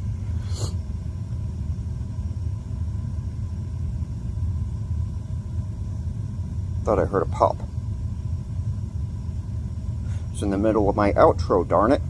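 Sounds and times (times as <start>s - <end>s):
gas forge burners rumbling: 0.0s - 12.0s.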